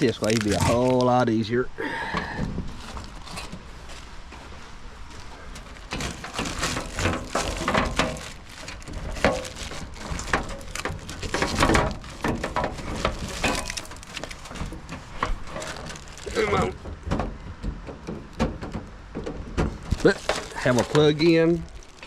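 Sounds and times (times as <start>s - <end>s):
packaging rustling and scraping: 0.0s - 1.5s, 2.6s - 17.0s, 19.6s - 22.0s.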